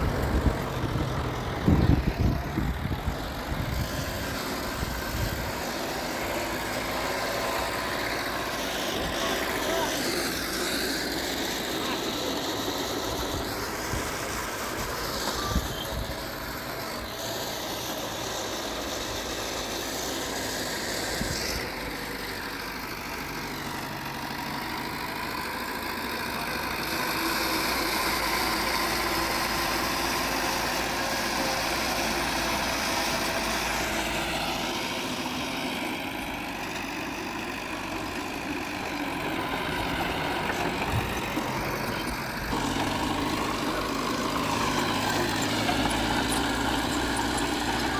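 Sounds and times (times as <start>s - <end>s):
diesel engine of earthmoving machine: 0.0s - 47.9s.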